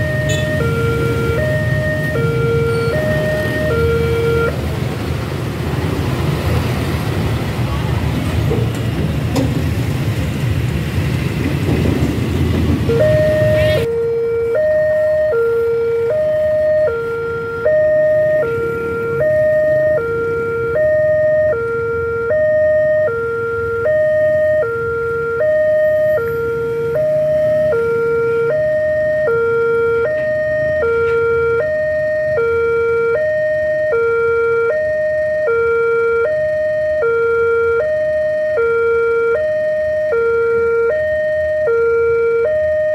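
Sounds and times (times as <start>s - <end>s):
two-tone level crossing alarm: 0.0s - 4.6s, 12.9s - 42.9s
rush of passing traffic: 0.0s - 42.9s.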